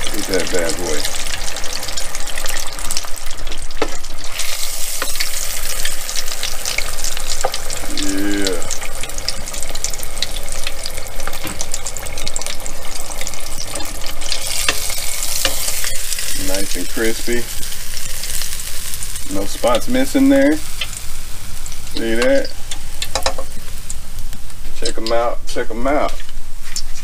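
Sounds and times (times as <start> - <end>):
fish deep-frying in hot oil: 0.0 - 27.0.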